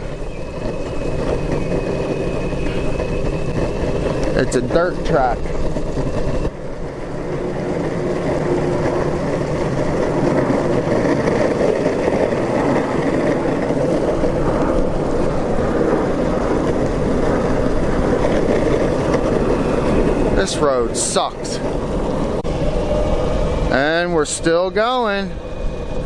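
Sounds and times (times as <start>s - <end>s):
skateboard wheels rumbling on road: 0.0s - 26.0s.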